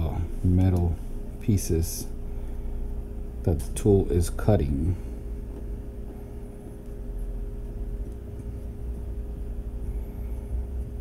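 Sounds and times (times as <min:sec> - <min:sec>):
low electrical room hum: 0:00.0 - 0:11.0.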